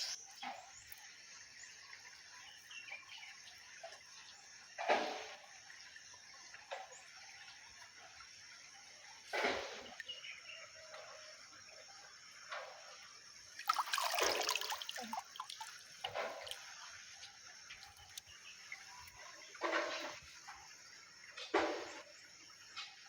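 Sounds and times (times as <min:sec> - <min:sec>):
water splashing and dripping: 0:00.0 - 0:23.0.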